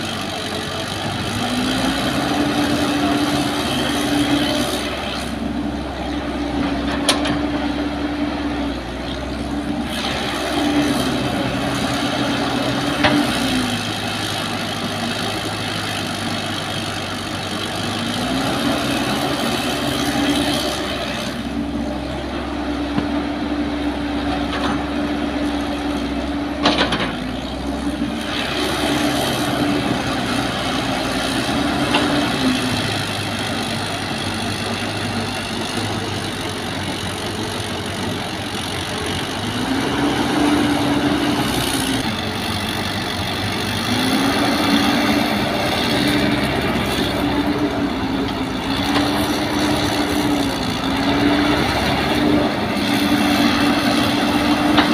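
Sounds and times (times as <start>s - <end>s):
excavator diesel engine working: 0.0s - 54.9s.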